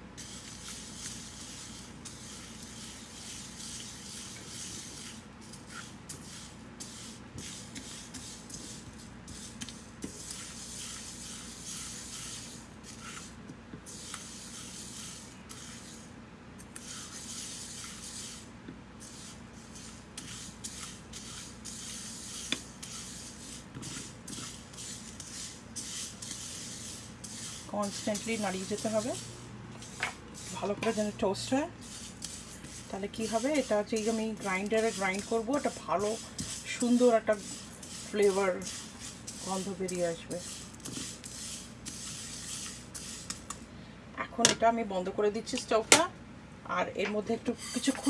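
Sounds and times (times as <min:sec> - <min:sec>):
seeds scraping in a frying pan: 0:00.0 - 0:43.7, 0:47.2 - 0:48.0.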